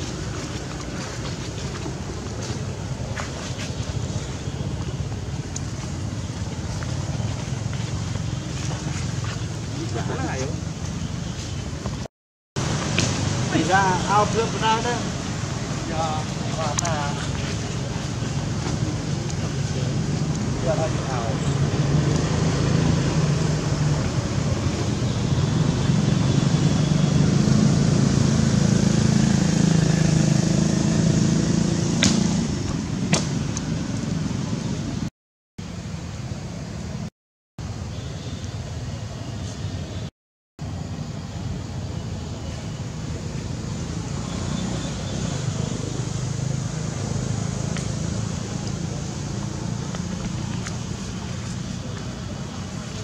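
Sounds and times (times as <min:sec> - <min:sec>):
vehicle engine humming: 0:00.0 - 0:40.0, 0:40.6 - 0:53.0.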